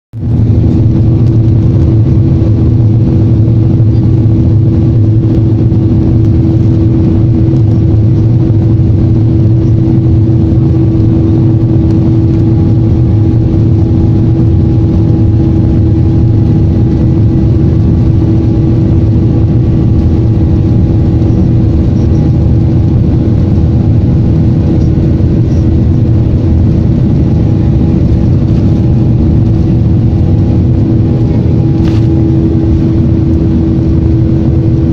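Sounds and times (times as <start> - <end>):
jet engines in aircraft cabin: 0.2 - 34.9.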